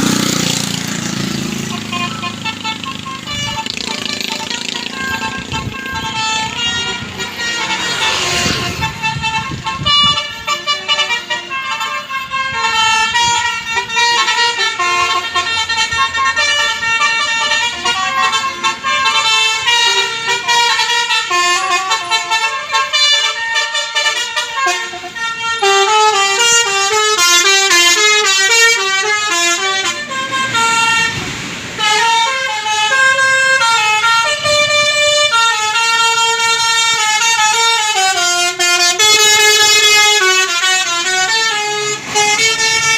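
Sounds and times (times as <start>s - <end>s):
multi-tone bus horn melody: 0.0s - 42.9s.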